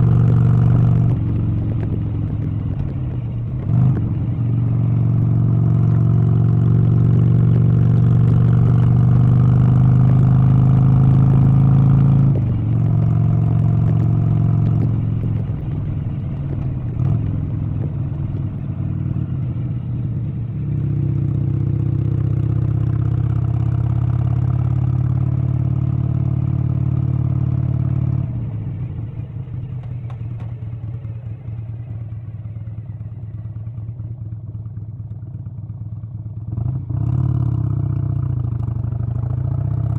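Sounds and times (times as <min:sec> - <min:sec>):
engine running: 0:00.0 - 0:35.7.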